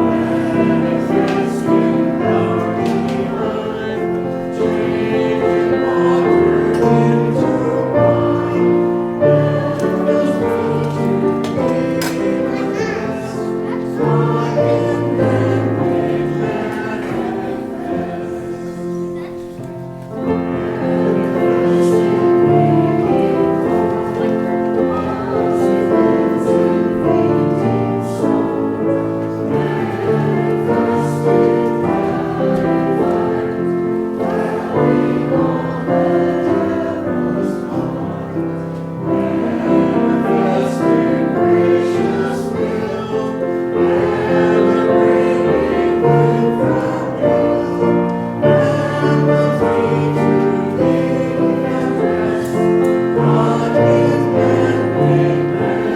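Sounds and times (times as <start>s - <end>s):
choir singing a hymn: 0.0s - 55.9s
instrumental accompaniment: 0.0s - 55.9s.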